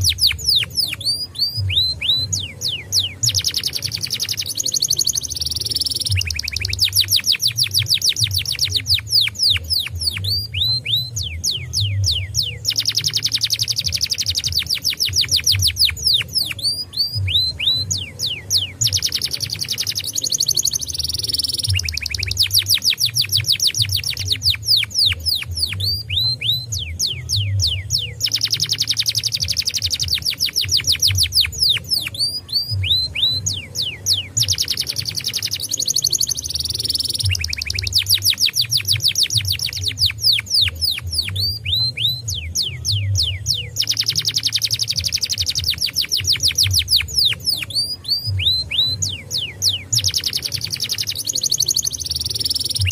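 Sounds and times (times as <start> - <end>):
canary singing: 0.0 - 52.9.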